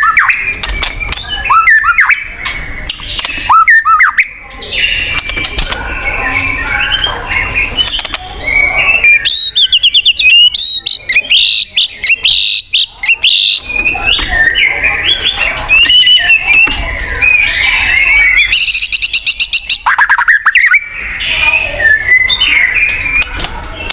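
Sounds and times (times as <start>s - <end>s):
bird singing varied song: 0.0s - 23.9s.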